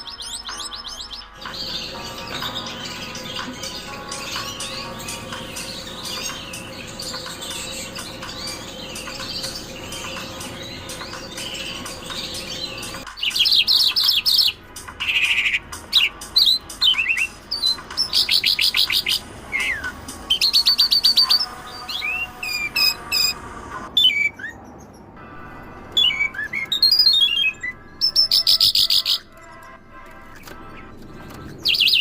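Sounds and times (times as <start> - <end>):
lark singing: 0.0 - 24.6, 26.0 - 29.4, 30.8 - 32.0.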